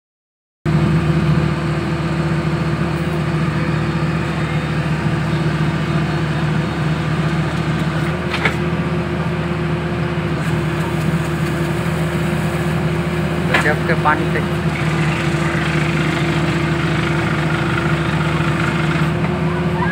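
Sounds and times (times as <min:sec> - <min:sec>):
drilling rig engine humming: 0:00.7 - 0:19.9.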